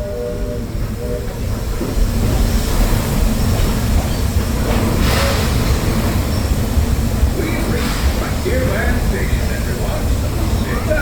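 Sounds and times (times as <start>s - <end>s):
train car rolling on track: 0.0s - 11.0s.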